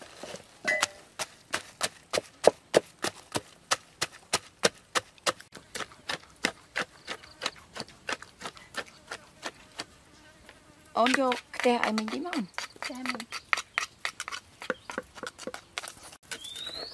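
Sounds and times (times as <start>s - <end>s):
wooden pestle pounding in mortar: 0.8s - 9.9s, 11.0s - 16.9s.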